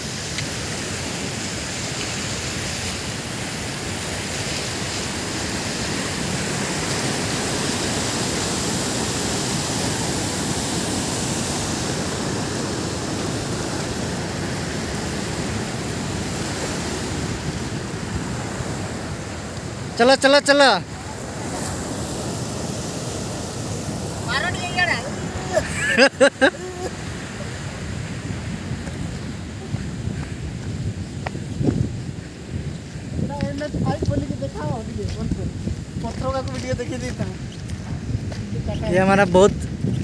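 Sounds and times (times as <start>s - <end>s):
water rushing over rocks: 0.0s - 40.0s.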